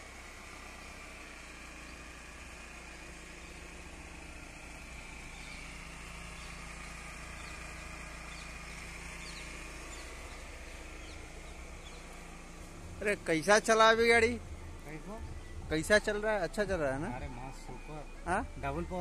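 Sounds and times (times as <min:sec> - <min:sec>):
car engine running: 0:00.0 - 0:19.0
faint bird chirps: 0:01.7 - 0:19.0.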